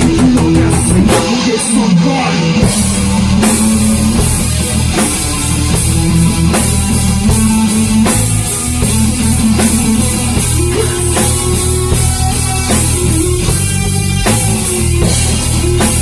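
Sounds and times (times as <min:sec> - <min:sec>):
drum kit: 0:00.0 - 0:16.0
guitar: 0:00.0 - 0:16.0.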